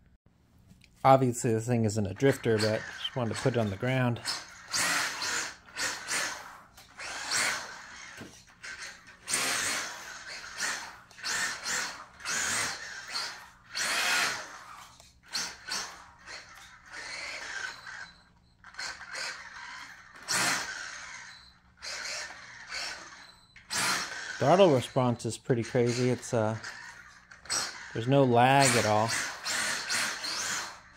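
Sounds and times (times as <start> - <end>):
tyres on concrete floor: 0.6 - 30.9
electric motor whirring: 2.2 - 30.9.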